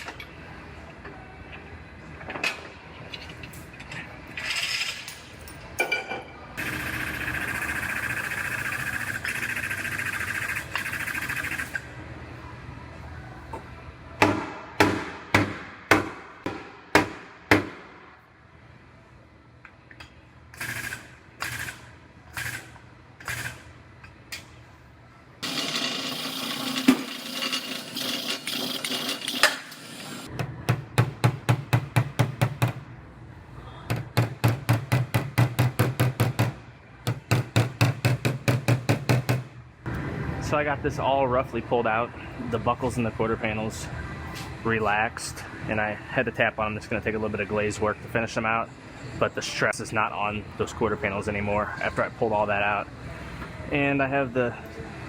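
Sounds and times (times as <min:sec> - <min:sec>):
shop equipment mechanical noise: 0:00.0 - 0:55.0.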